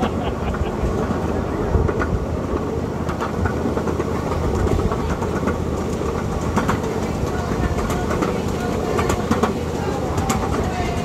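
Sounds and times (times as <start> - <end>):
miniature train rumbling: 0.0 - 11.0
wheels clicking over rails: 0.0 - 11.0.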